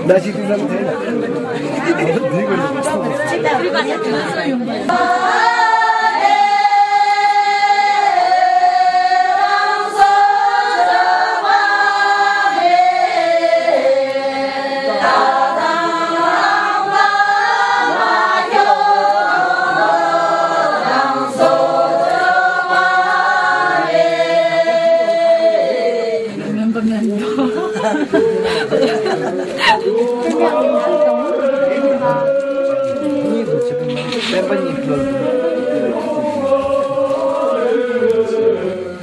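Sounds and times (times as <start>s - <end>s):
women singing unaccompanied: 2.6s - 39.0s.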